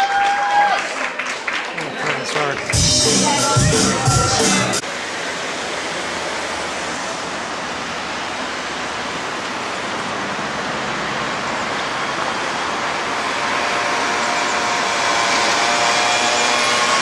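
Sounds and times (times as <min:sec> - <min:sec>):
street ambience hiss: 0:01.4 - 0:17.0.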